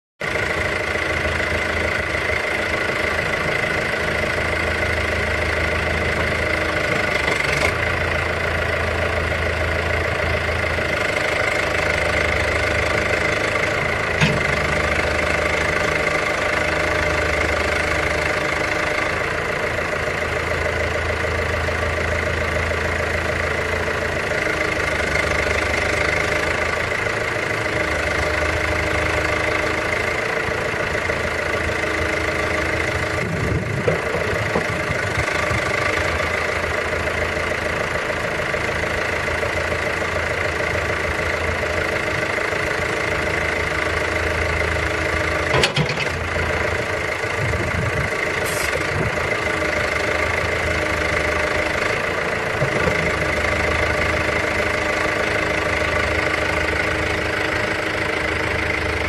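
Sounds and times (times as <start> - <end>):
diesel engine idling: 0.2 - 59.0.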